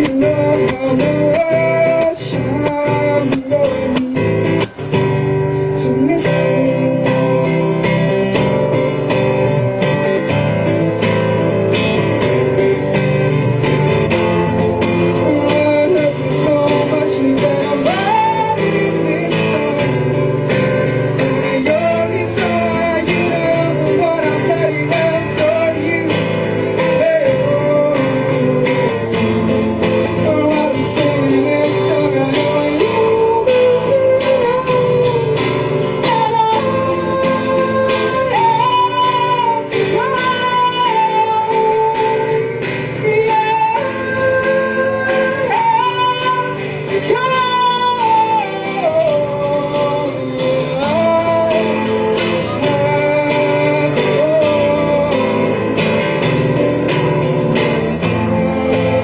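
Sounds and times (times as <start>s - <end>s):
live band with lead guitar: 0.0s - 59.0s.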